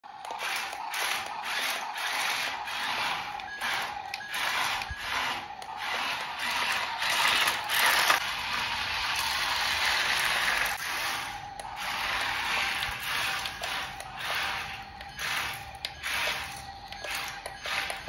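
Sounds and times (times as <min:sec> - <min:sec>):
toy truck motor grinding on sand: 0:00.3 - 0:18.0.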